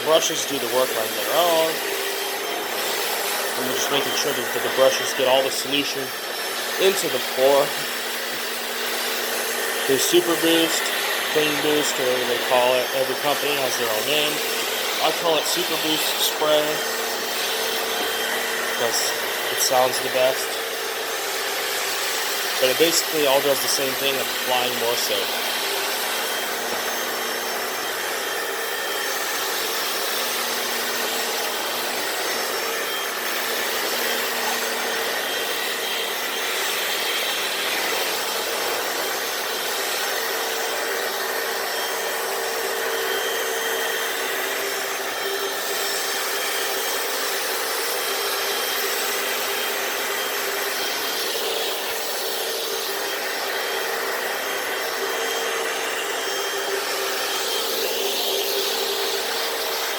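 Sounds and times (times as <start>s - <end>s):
brushes scrubbing wet floor: 0.0s - 59.9s
suction motor whine: 0.0s - 59.9s.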